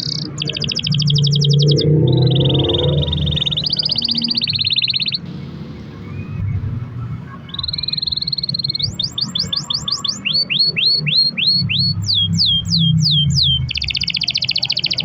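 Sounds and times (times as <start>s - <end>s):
canary singing trills and whistles: 0.0s - 15.0s.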